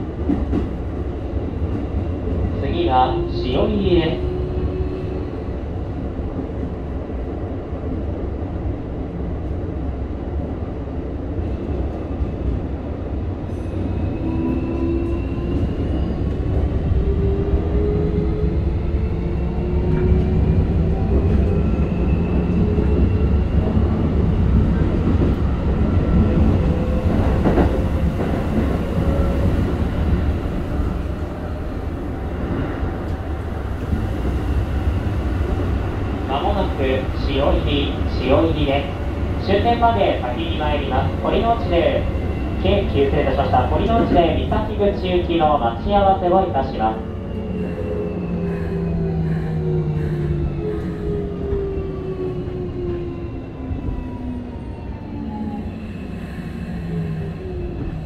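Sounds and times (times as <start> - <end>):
train wheel and rail rumble: 0.0 - 58.0.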